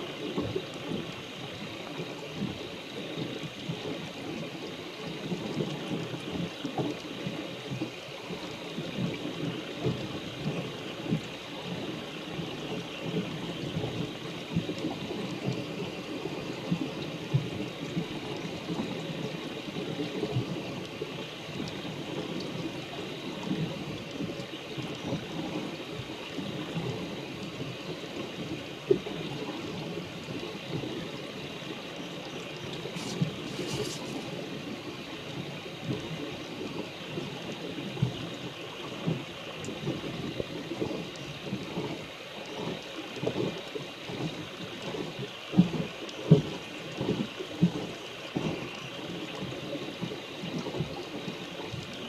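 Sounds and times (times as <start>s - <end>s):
steady rain: 0.0s - 52.0s
ticks of raindrops: 0.0s - 52.0s.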